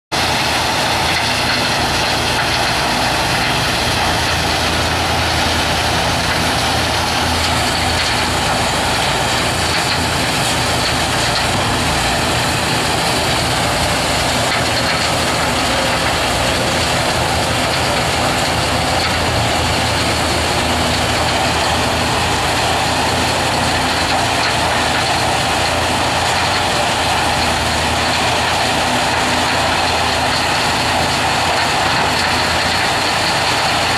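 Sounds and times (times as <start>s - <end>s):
heavy machinery din: 0.2s - 33.9s.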